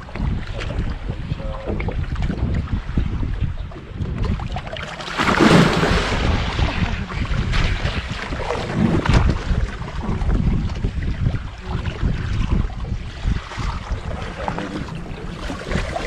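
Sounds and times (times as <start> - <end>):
rush of water: 0.0 - 16.0
waves sloshing: 0.0 - 16.0
wind buffeting microphone: 0.0 - 16.0.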